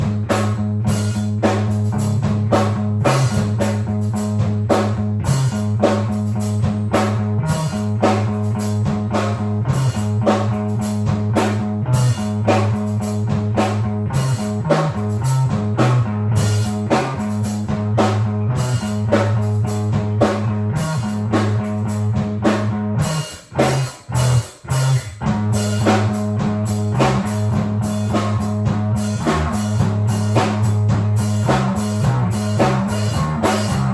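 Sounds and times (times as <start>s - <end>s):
bass: 0.0s - 33.9s
drum kit beat: 0.0s - 33.9s
guitar: 0.0s - 33.9s.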